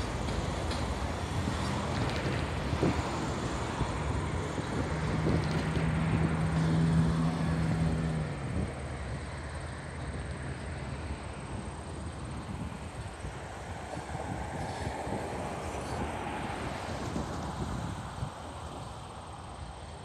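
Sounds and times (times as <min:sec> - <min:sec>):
freight train rolling rumble: 0:00.0 - 0:20.0.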